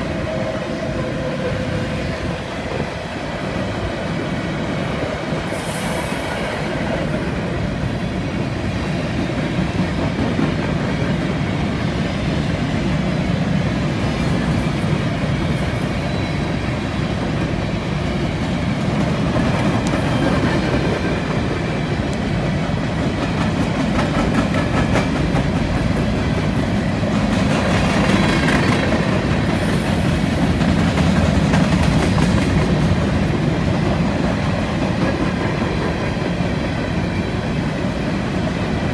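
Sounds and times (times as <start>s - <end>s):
freight train wheels clickety-clack: 0.0s - 38.9s.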